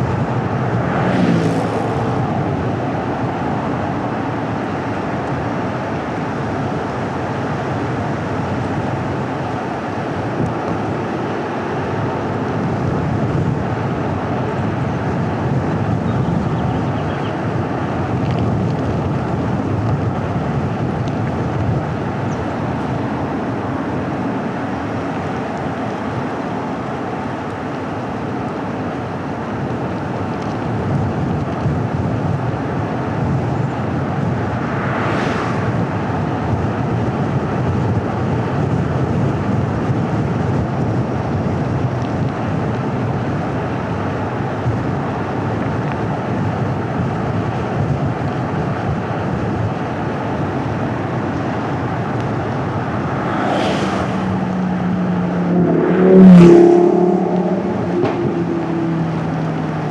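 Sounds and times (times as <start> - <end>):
low engine hum: 0.0 - 59.9
tyre and road noise: 0.0 - 59.9.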